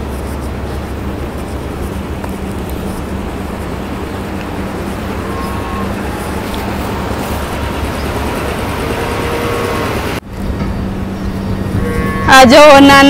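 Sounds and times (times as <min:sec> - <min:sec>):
deep rumble: 0:00.0 - 0:13.0
machine hum: 0:00.0 - 0:13.0.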